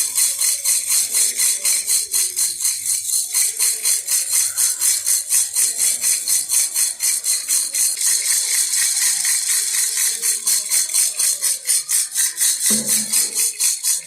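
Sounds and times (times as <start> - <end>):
baby rattle shaking: 0.0 - 14.0.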